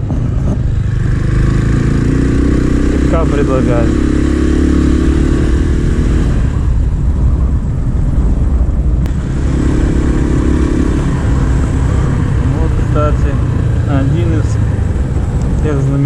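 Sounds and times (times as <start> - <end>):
low wind rumble: 0.0 - 16.0
motorcycle engine running: 0.0 - 16.0.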